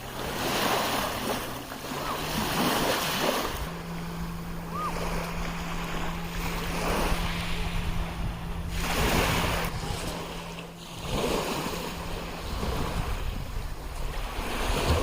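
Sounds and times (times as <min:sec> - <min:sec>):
steady low hum: 0:00.0 - 0:15.0
waves breaking on shore: 0:00.0 - 0:15.0.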